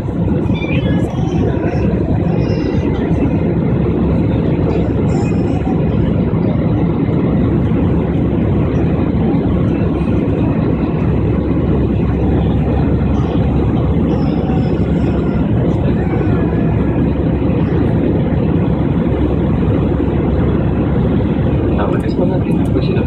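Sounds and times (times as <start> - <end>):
airliner engines and rushing air: 0.0 - 23.0.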